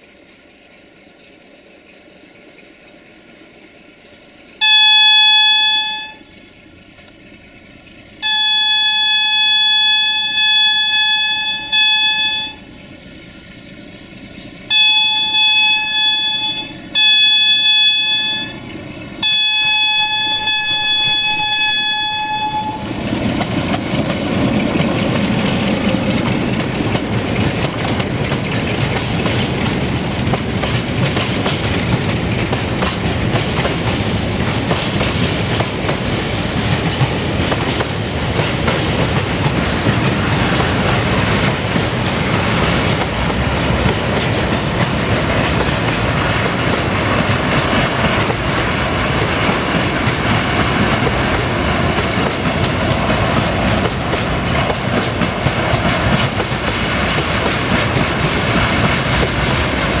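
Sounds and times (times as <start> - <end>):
train wheels on track: 0.0 - 60.0.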